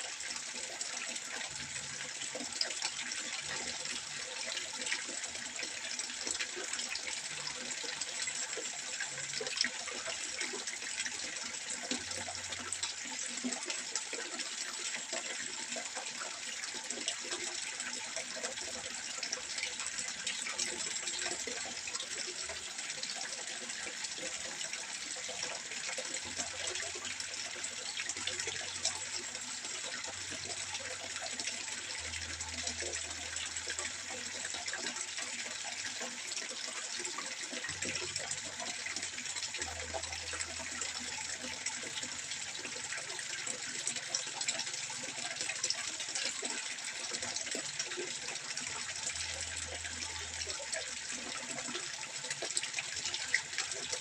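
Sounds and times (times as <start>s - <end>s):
water trickling into a pond: 0.0s - 54.0s.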